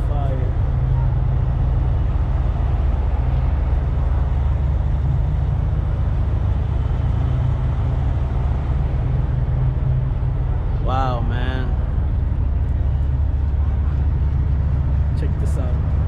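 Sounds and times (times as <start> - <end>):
low rumble: 0.0 - 16.0
outdoor background noise: 0.0 - 16.0.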